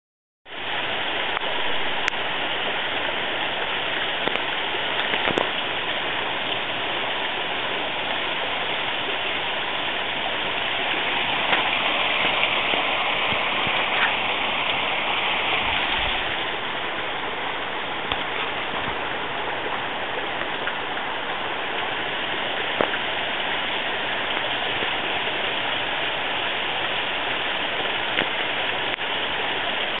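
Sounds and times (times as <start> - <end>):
waterfall rushing: 0.5 - 30.0.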